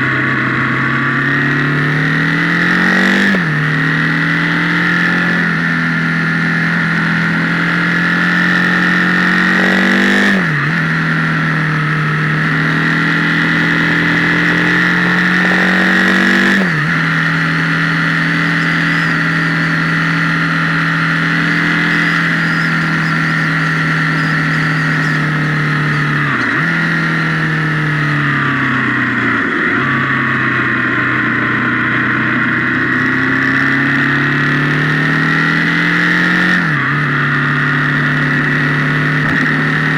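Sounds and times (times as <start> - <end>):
high whine: 0.0 - 39.9
motorcycle engine pulling: 0.0 - 39.9.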